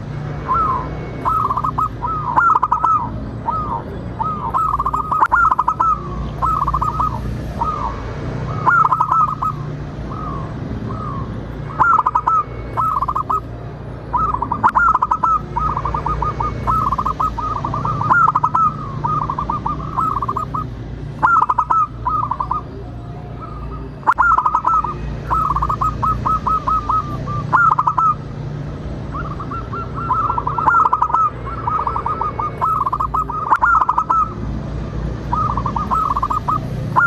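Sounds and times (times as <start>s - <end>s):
dove cooing: 0.5s - 13.5s, 14.1s - 28.2s, 29.1s - 34.4s, 35.3s - 37.0s.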